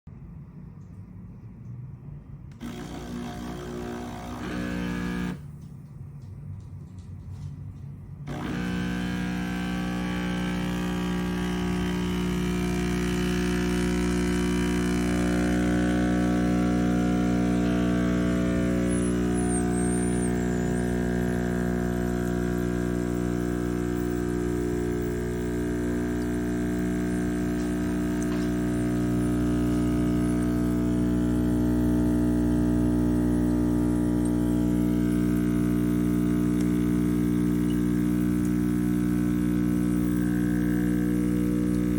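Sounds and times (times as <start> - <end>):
espresso machine pump buzzing: 2.5 - 5.6, 8.2 - 41.9.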